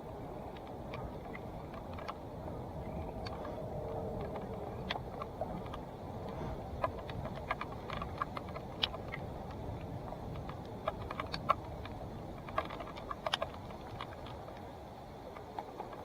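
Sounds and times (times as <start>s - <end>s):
bike clicks and rattles: 0.0s - 16.0s
bike tyres rumbling: 0.0s - 16.0s
wind: 0.0s - 16.0s.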